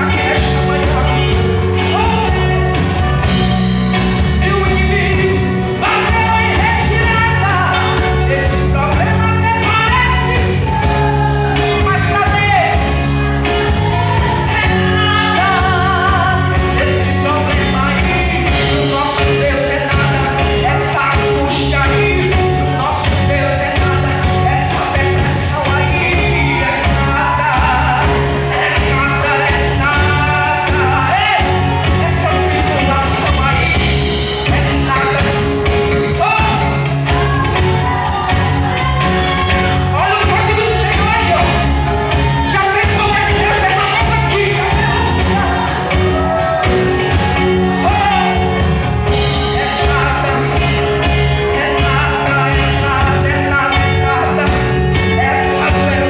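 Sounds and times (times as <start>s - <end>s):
gospel band playing: 0.0s - 56.0s.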